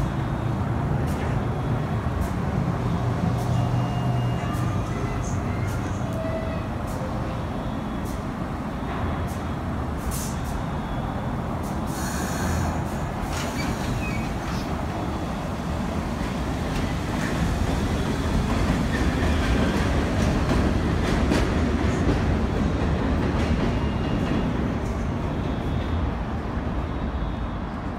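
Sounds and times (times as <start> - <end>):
train wheels rumbling on tracks: 0.0 - 27.9.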